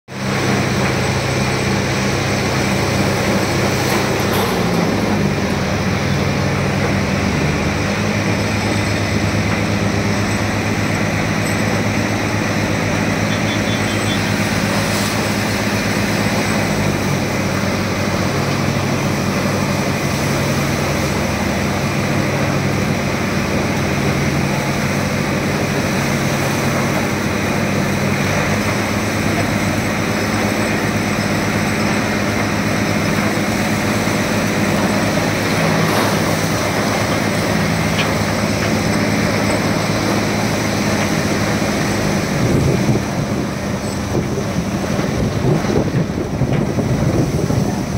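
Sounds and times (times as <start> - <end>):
tractor diesel engine running: 0.1 - 47.9.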